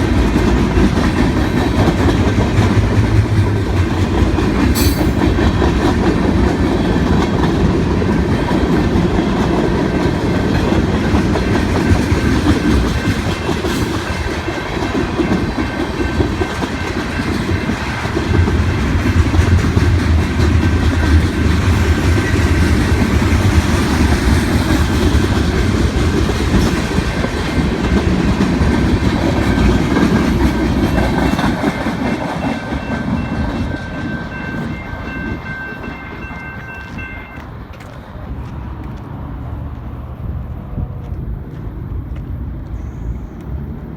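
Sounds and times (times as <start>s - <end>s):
freight train rumble: 0.0s - 43.9s.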